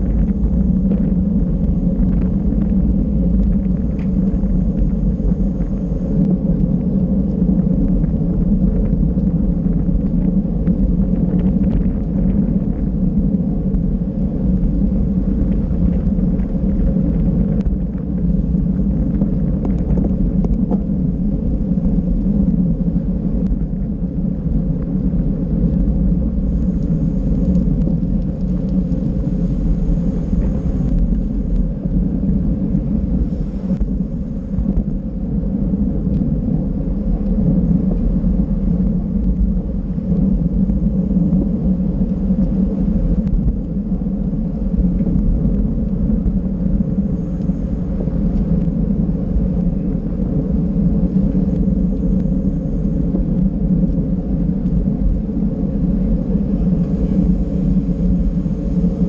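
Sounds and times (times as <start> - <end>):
faint hum: 0.0 - 59.0
wind buffeting microphone: 0.0 - 59.0.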